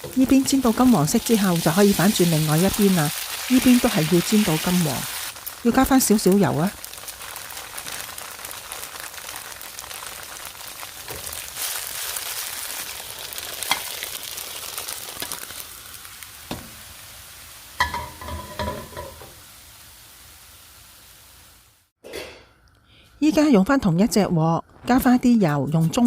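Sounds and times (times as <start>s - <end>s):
tofu sizzling in hot oil: 0.0s - 21.9s.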